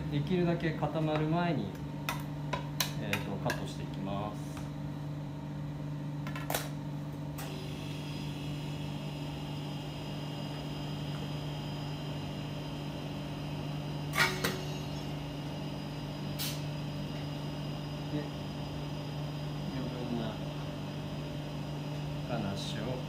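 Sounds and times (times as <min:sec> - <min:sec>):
kitchen machinery hum: 0:00.0 - 0:23.0.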